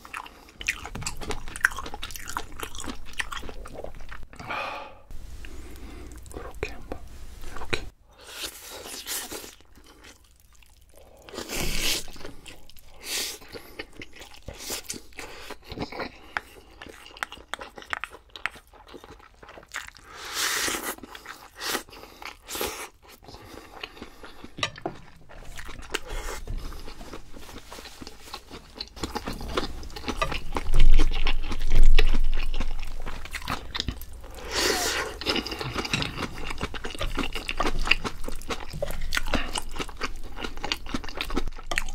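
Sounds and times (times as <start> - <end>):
chewing and crunching food: 0.0 - 4.5, 5.4 - 41.9.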